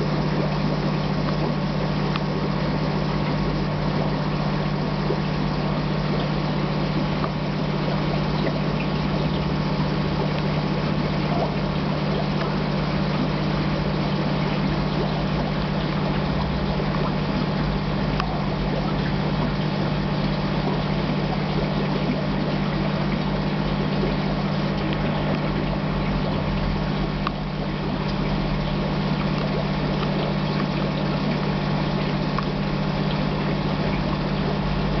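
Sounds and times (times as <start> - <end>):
aquarium pump humming: 0.0 - 35.0
moving water: 0.0 - 35.0.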